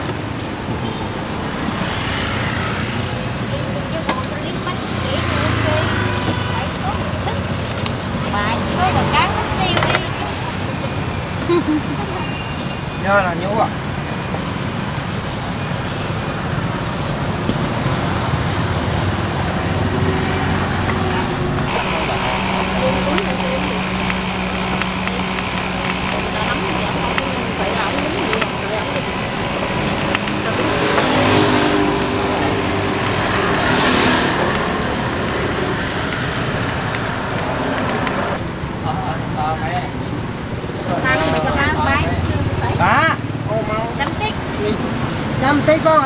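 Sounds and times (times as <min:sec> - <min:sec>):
vehicle passing: 0:00.0 - 0:12.2, 0:16.9 - 0:46.0
road traffic rumble: 0:00.0 - 0:46.0
vehicle engine hum: 0:00.0 - 0:46.0.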